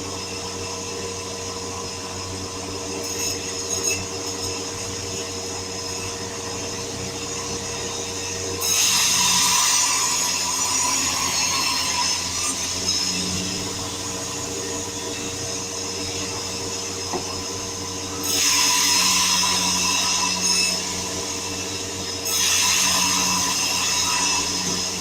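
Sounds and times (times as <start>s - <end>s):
sawmill machinery humming: 0.0s - 25.0s
saw blade cutting wood: 2.2s - 25.0s.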